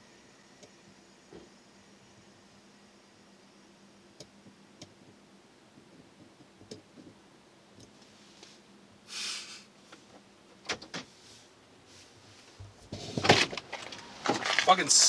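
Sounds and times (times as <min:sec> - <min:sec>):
faint background hum: 0:00.0 - 0:15.0.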